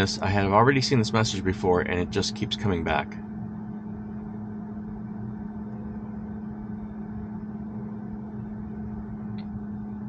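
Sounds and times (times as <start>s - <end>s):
car cabin fan hum: 0.0s - 10.0s.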